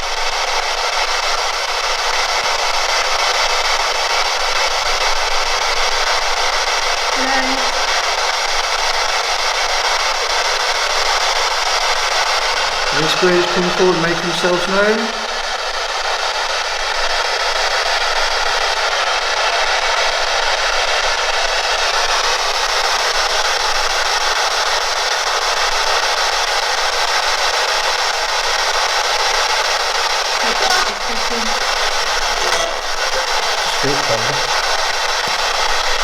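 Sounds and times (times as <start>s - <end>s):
static hiss: 0.0s - 36.0s.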